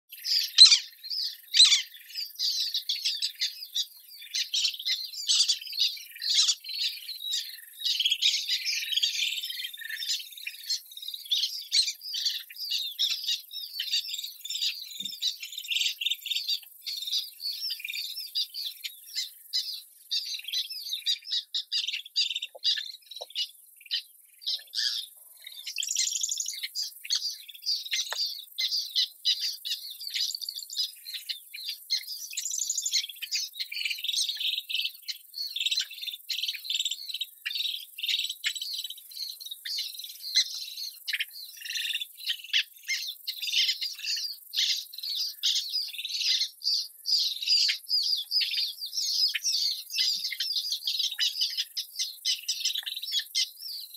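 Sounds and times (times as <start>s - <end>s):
wild birds chirping: 0.0s - 53.9s.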